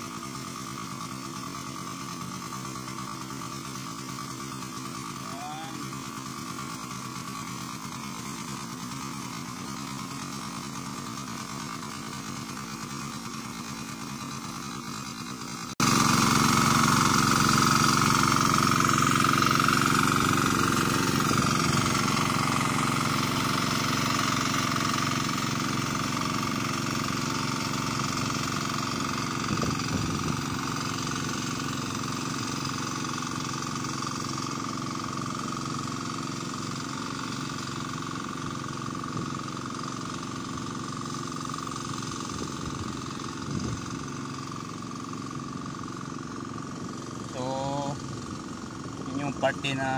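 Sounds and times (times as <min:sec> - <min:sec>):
hand tractor engine under load: 0:00.0 - 0:49.9.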